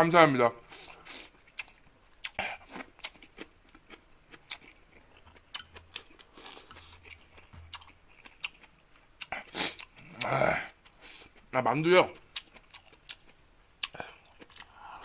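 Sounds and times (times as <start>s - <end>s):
chewing noodles with mouth clicks: 0.7s - 11.5s, 12.1s - 15.0s.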